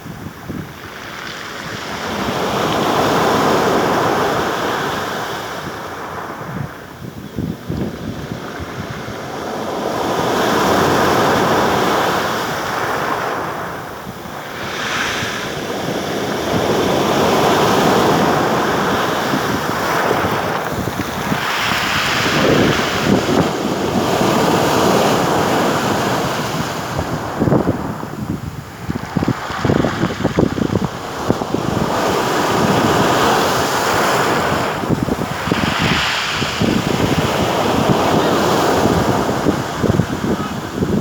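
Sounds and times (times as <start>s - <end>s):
wind buffeting microphone: 0.0s - 41.0s
waves breaking on shore: 0.1s - 41.0s.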